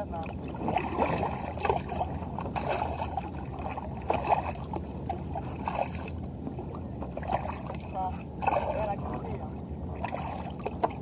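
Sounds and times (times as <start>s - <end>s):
low steady rumble: 0.0s - 11.0s
small water splashes: 0.0s - 11.0s
water lapping against kayak hull: 0.0s - 11.0s.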